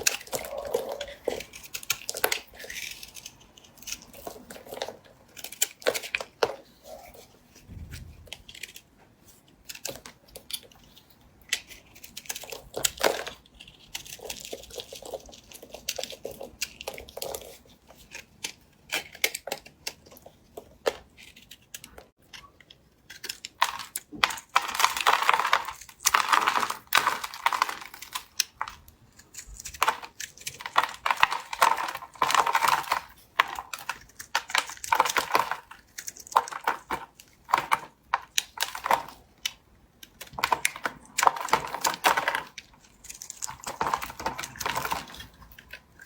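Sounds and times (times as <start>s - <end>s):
blade cutting soap: 0.0s - 46.0s.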